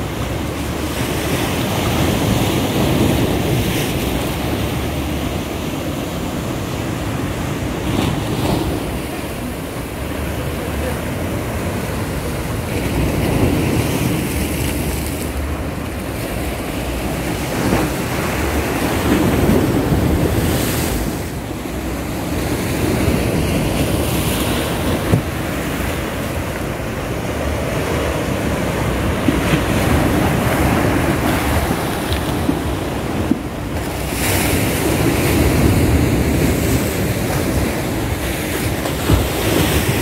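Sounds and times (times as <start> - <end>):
surf breaking on rocky shore: 0.0 - 40.0
wind buffeting microphone: 0.0 - 40.0.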